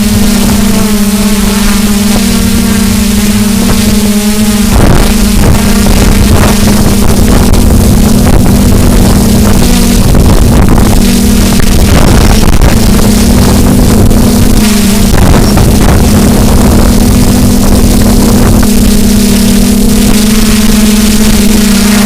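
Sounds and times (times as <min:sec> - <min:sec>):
quadcopter propellers buzzing: 0:00.0 - 0:22.0
wind buffeting microphone: 0:01.8 - 0:22.0.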